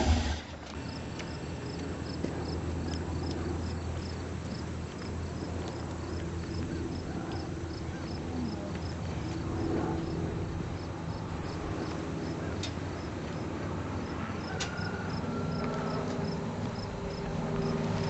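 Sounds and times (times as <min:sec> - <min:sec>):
crickets chirping: 0:00.7 - 0:08.6, 0:10.0 - 0:12.4, 0:13.0 - 0:18.0.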